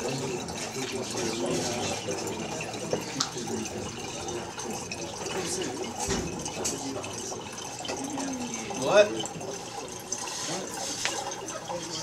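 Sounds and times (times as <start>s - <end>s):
liquid trickling into bottles: 0.0s - 12.0s.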